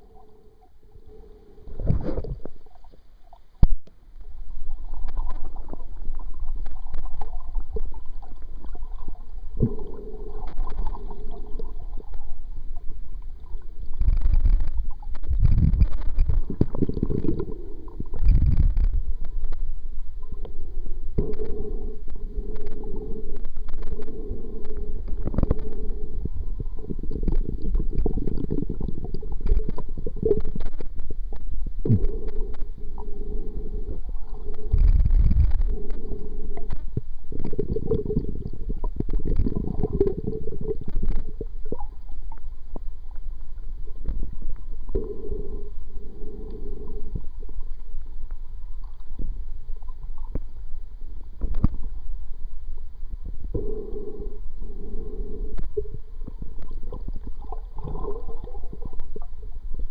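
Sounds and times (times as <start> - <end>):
underwater rumble and gurgling: 0.0 - 59.9.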